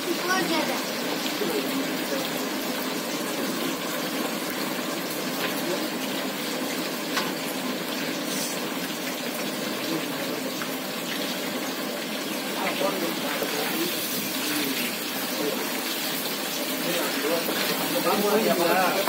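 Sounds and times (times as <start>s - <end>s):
chicken deep-frying in hot oil: 0.0s - 19.0s.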